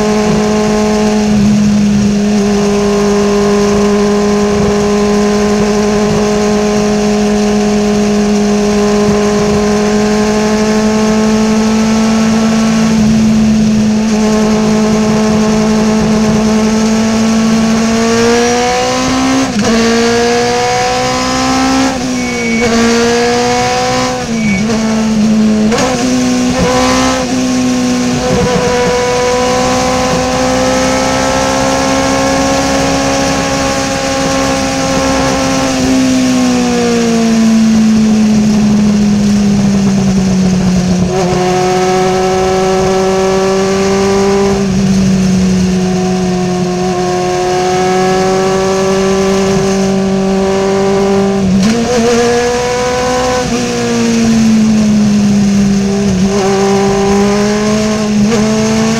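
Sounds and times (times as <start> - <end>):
race car engine: 0.0 - 58.9
wind and road noise: 0.0 - 58.9.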